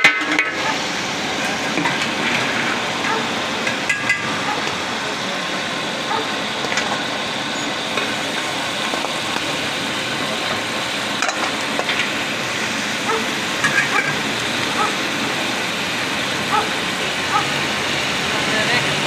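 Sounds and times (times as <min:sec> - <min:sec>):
meat sizzling on a griddle: 0:00.0 - 0:19.0.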